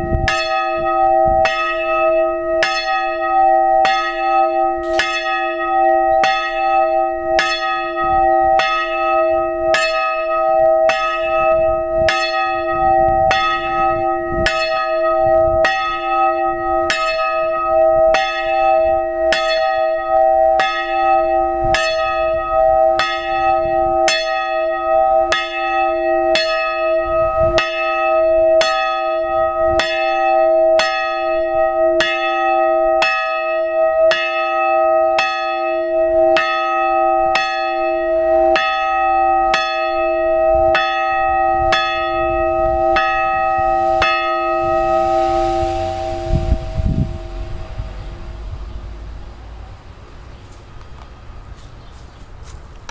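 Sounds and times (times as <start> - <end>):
small church bell ringing: 0.0 - 50.1.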